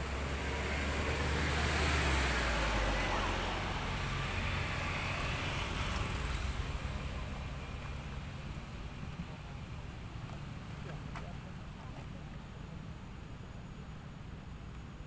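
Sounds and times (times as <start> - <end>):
passing vehicle rumble: 0.0 - 14.6.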